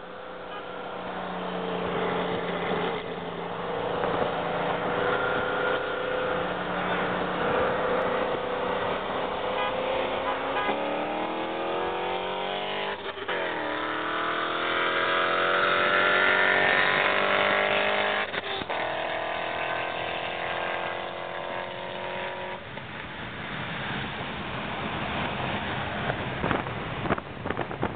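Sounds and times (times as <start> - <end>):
car engine at full throttle: 0.0 - 27.9
wind and road noise: 0.0 - 27.9.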